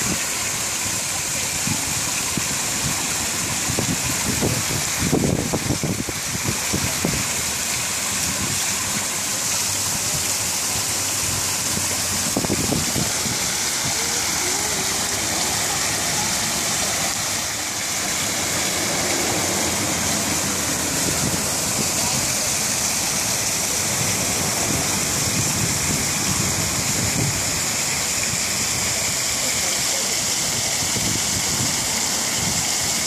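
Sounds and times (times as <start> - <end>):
water pouring down waterfall: 0.0 - 33.0
low rumbles: 2.3 - 29.3.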